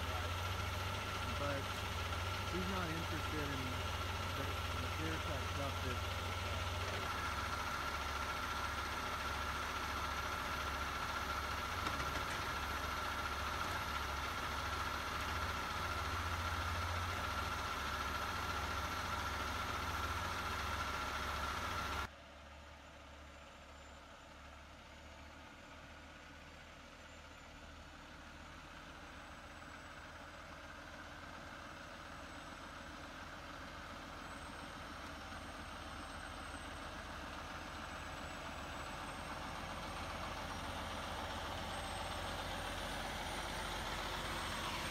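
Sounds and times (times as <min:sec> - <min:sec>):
diesel engines idling: 0:00.0 - 0:44.9
truck approaching on gravel road: 0:00.0 - 0:44.9.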